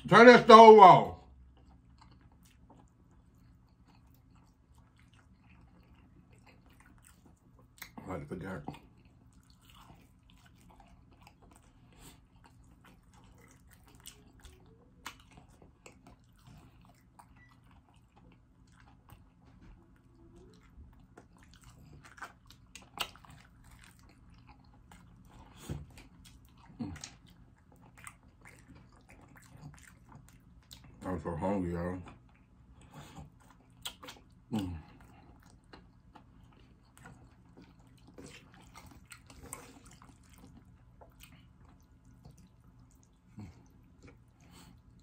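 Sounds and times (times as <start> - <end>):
faint steady hum: 0.0 - 45.0
person chewing food: 1.3 - 45.0.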